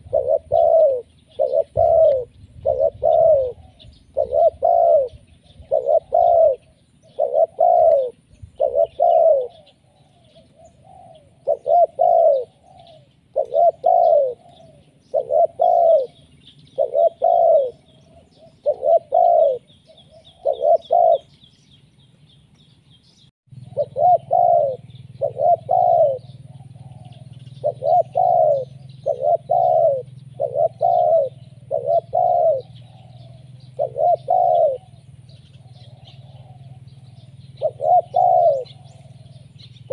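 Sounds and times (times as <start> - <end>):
dove cooing: 0.0 - 21.5, 23.6 - 39.9
small birds chirping: 0.0 - 39.9.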